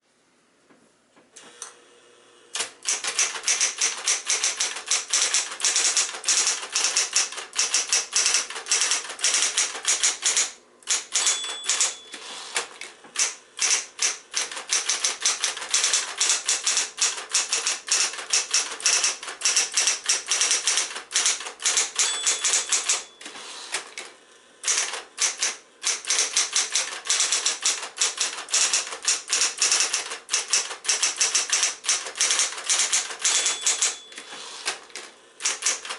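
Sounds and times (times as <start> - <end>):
electric typewriter key strikes: 2.6 - 35.9
typewriter bell ring: 2.8 - 12.3, 13.2 - 23.4, 24.7 - 34.4.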